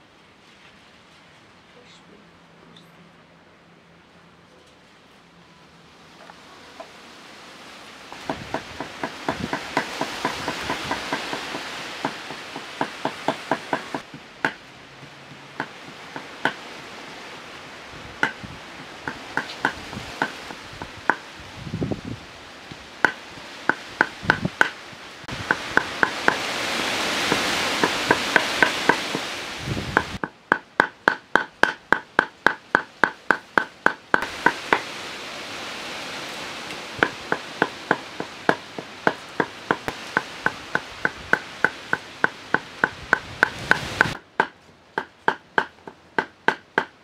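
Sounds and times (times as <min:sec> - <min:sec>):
soft steady hiss: 0:00.0 - 0:47.0.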